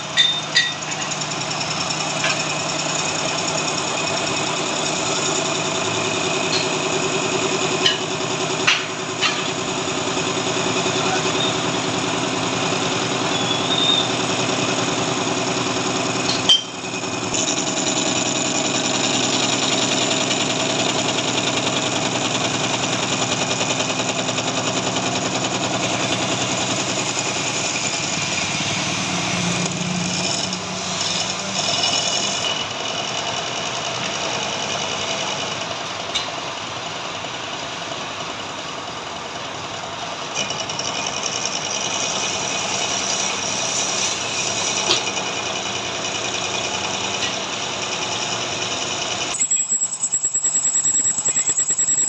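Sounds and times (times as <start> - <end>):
metal lathe running: 0.0 - 52.0.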